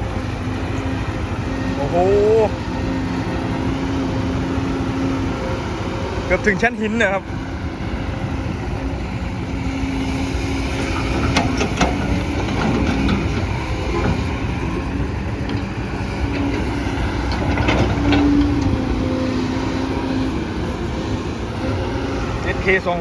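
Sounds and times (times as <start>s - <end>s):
excavator diesel engine under load: 0.0s - 23.0s.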